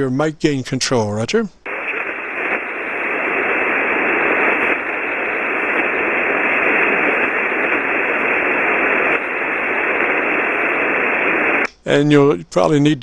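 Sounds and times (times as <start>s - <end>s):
radio static hiss: 0.8s - 13.0s.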